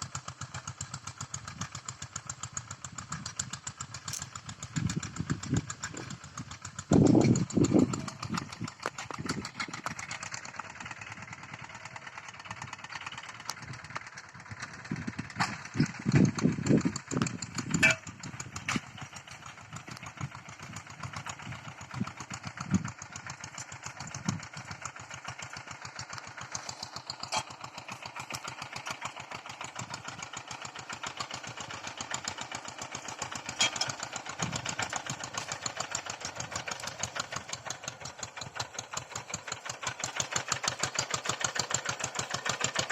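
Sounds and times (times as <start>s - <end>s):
hand tractor engine running: 0.0s - 42.9s.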